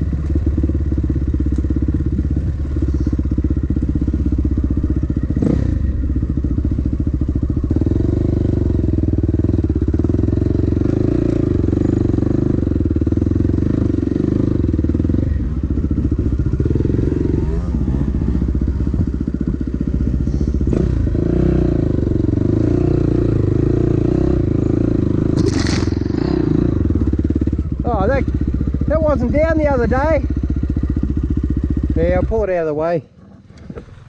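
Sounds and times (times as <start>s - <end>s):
dirt bike engine: 0.0s - 34.0s.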